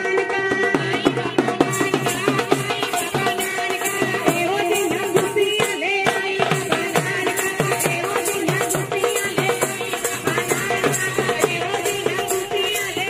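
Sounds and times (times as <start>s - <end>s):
drum playing a steady beat: 0.0s - 13.0s
women singing through microphones: 0.0s - 13.0s.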